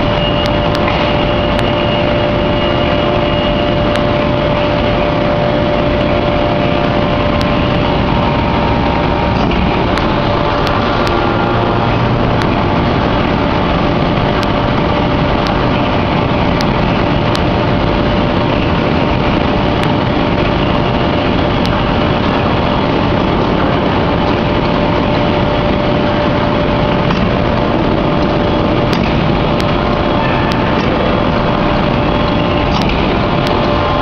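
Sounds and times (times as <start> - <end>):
forging machinery drone: 0.0 - 34.0.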